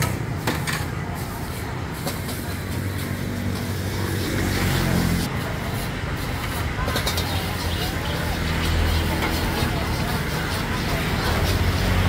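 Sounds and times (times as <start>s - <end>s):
gas burner rumbling: 0.0s - 12.0s.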